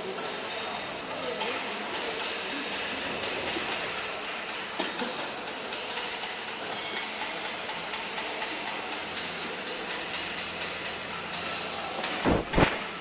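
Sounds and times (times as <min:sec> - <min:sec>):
workshop machinery running: 0:00.0 - 0:13.0.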